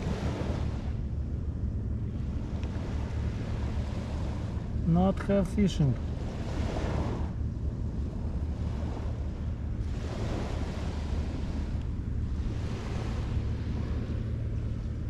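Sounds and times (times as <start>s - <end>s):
small waves washing onto beach: 0.0s - 15.0s
wind buffeting microphone: 0.0s - 15.0s.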